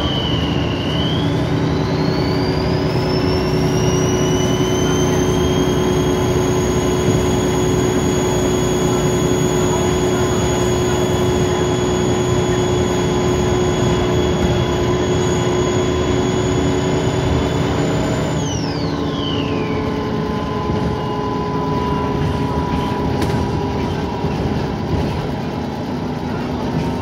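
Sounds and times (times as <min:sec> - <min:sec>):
bus engine running: 0:00.0 - 0:27.0
road noise: 0:00.0 - 0:27.0
turbocharger whine: 0:00.0 - 0:27.0.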